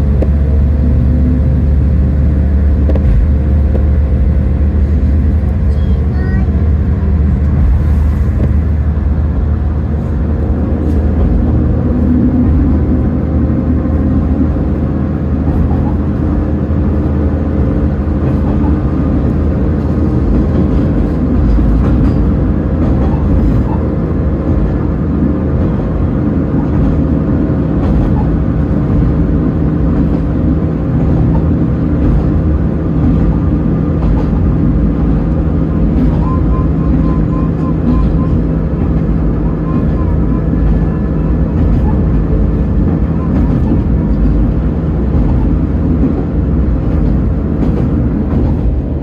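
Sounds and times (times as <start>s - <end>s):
railcar engine drone: 0.0s - 49.0s
wheels rumbling on rails: 0.0s - 49.0s.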